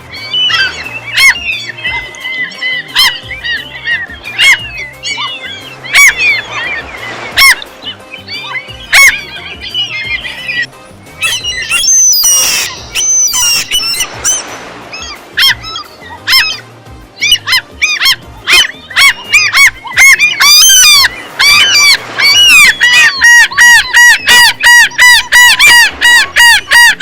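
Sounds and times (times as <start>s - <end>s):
gulls calling: 0.0s - 27.0s.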